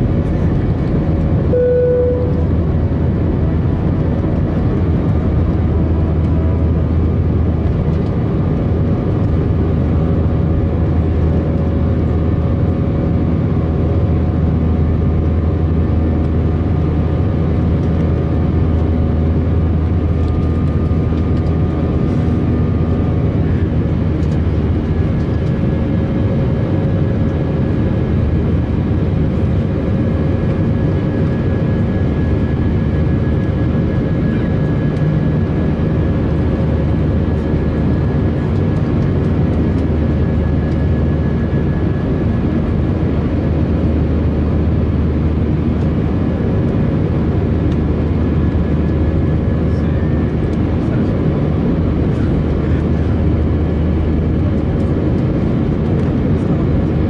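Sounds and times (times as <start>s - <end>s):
jet engine rumble in cabin: 0.0s - 57.0s.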